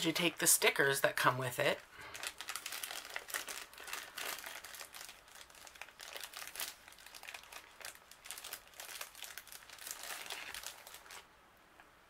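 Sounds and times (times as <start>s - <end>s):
plastic bag crinkling: 1.6s - 11.3s.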